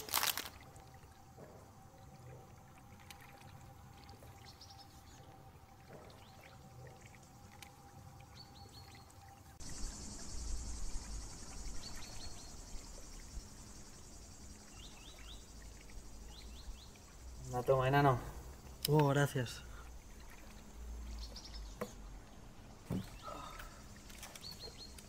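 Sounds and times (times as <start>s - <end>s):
insects buzzing: 0.0s - 25.0s
small birds chirping: 3.1s - 25.0s.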